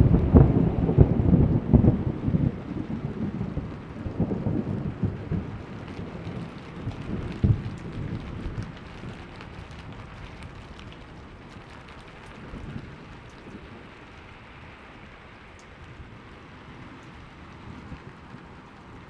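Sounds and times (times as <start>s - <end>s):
low thunder rumble: 0.0s - 14.4s, 15.7s - 19.0s
rain pattering: 0.0s - 19.0s
sharp raindrop ticks: 0.0s - 19.0s.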